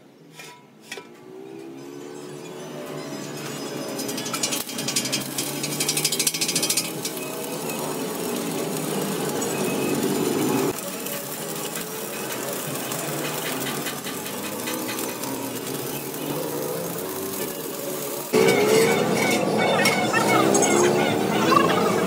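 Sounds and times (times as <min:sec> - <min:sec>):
welding arc crackling: 0:01.2 - 0:22.0.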